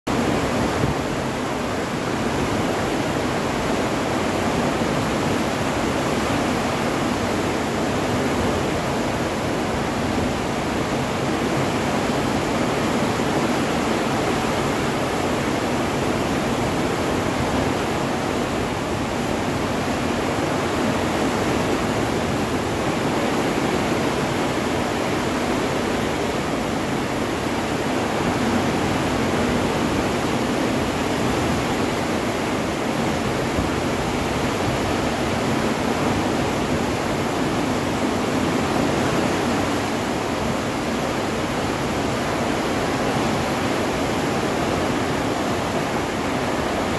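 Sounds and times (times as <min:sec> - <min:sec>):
ship's wake rushing: 0:00.1 - 0:46.9.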